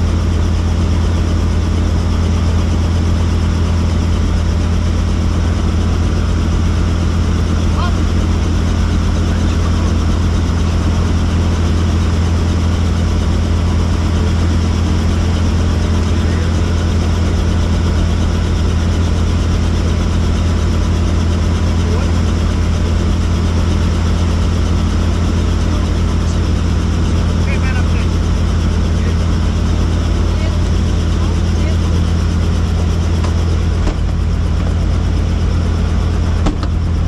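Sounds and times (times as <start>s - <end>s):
helicopter drone: 0.0s - 37.0s.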